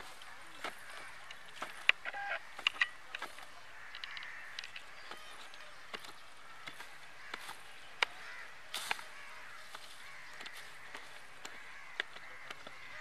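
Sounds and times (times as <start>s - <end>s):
faint bird calls: 0.0s - 13.0s
stick scraping dry ground: 0.0s - 13.0s.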